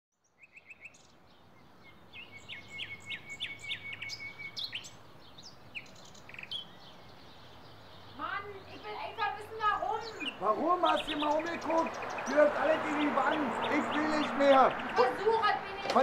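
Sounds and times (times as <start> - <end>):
faint outdoor background noise: 0.1 - 16.0
small birds chirping: 0.1 - 16.0.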